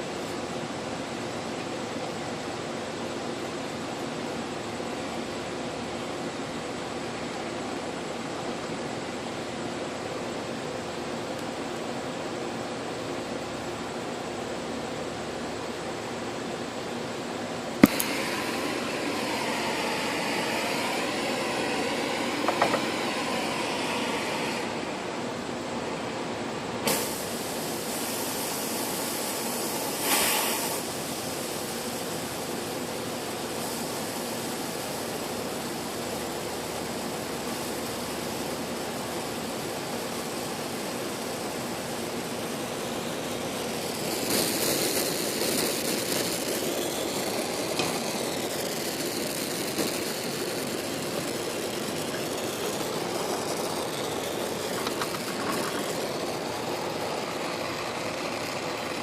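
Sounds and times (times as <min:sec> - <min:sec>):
torch flame hissing: 0:00.0 - 0:59.0.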